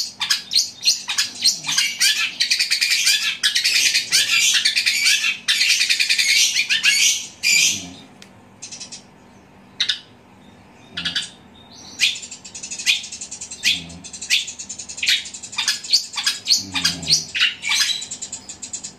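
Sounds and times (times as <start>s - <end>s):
bird harsh chattering song: 0.0s - 18.9s.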